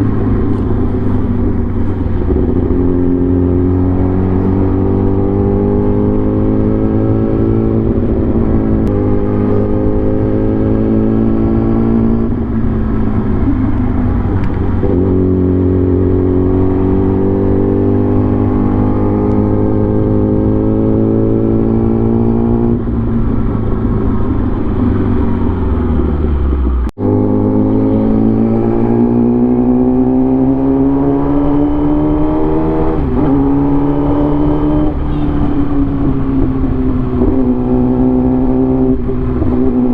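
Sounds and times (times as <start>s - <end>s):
vehicle engine shifting gears: 0.0s - 39.9s.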